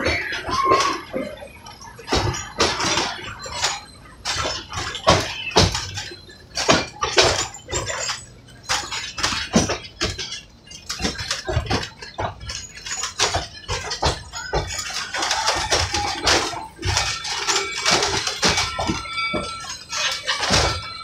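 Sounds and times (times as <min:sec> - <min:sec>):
train coach clanking and rattling: 0:00.0 - 0:21.0.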